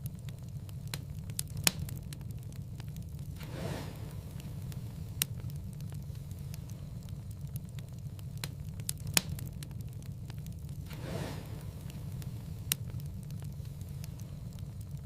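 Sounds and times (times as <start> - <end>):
low rumble of flames: 0.0 - 15.0
sharp fire pops: 0.0 - 15.0
wood fire crackling: 0.0 - 15.0.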